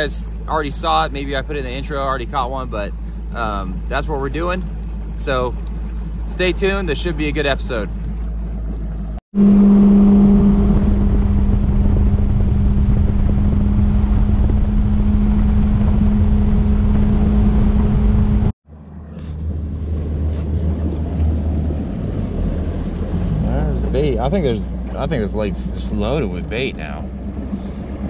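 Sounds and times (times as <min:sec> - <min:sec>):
water rushing: 0:00.0 - 0:18.2, 0:19.5 - 0:28.0
deep engine hum: 0:00.0 - 0:28.0
outboard engine running: 0:00.0 - 0:28.0.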